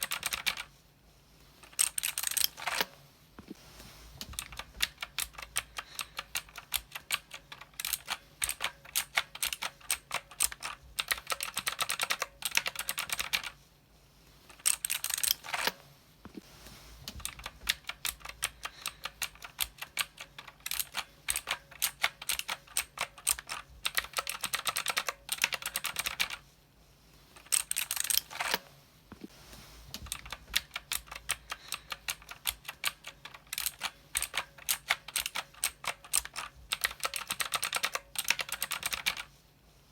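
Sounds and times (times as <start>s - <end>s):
mechanical keyboard typing: 0.0s - 0.7s, 1.6s - 2.9s, 4.2s - 13.6s, 14.5s - 15.8s, 17.1s - 26.4s, 27.4s - 28.6s, 30.0s - 39.3s.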